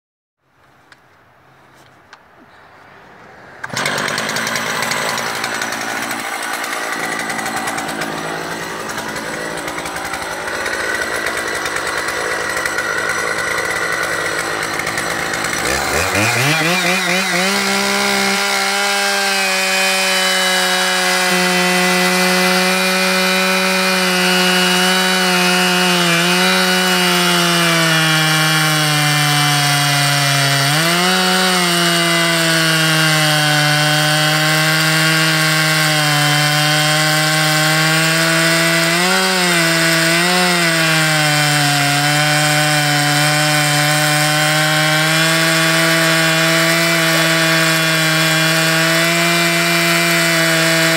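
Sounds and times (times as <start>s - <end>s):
chainsaw cutting log: 3.6s - 50.9s.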